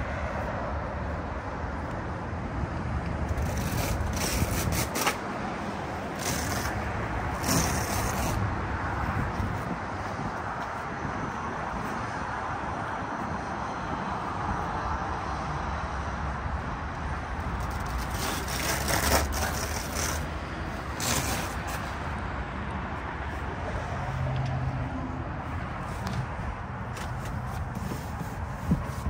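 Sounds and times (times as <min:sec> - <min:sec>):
distant road traffic rumble: 0:00.0 - 0:29.0.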